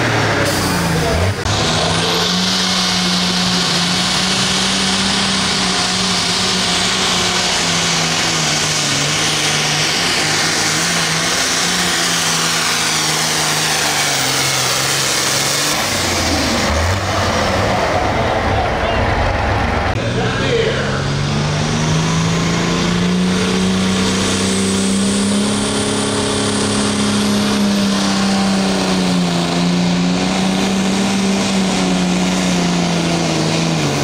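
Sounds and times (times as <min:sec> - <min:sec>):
tractor diesel engine at full throttle: 0:00.0 - 0:34.0.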